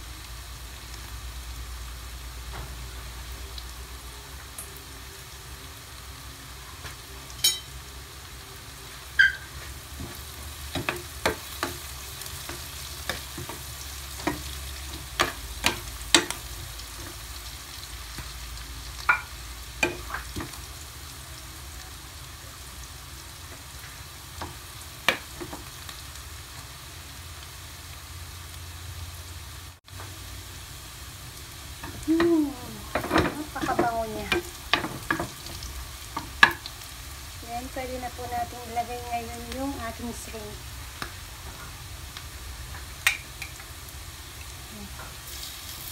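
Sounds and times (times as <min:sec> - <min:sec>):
onions sizzling in butter: 0:00.0 - 0:45.9.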